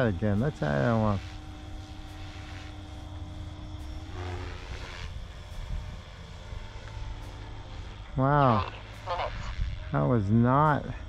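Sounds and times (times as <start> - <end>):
distant rc helicopter hum: 0.0 - 11.0.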